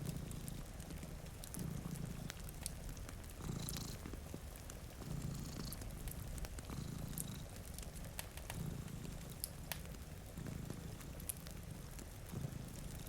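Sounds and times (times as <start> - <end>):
cat purring: 0.0 - 13.0
wood fire crackling: 0.0 - 13.0.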